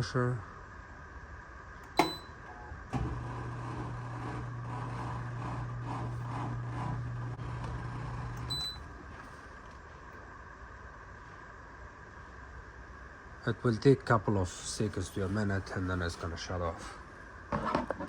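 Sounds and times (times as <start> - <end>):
washing machine electric hum: 0.0 - 18.0.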